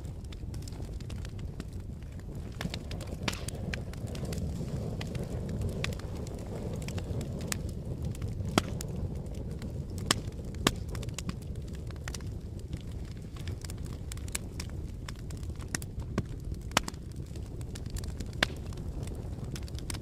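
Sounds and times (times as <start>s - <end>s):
fire crackles and pops: 0.0s - 20.0s
wood fire rumbling: 0.0s - 20.0s.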